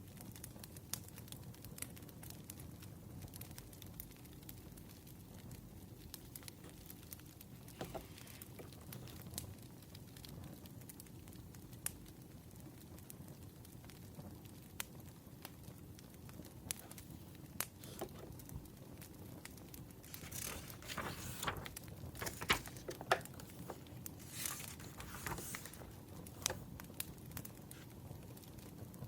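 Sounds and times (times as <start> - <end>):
wood fire crackling: 0.1 - 29.0.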